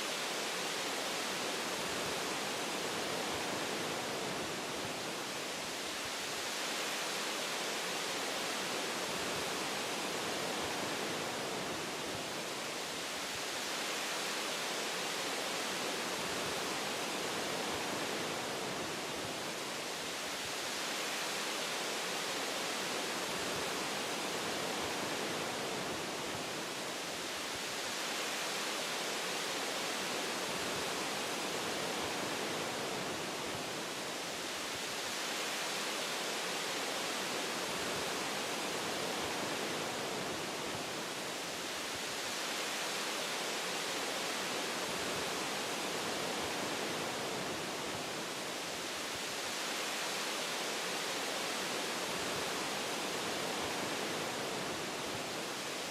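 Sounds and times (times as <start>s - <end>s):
wind through tree branches: 0.0s - 55.9s.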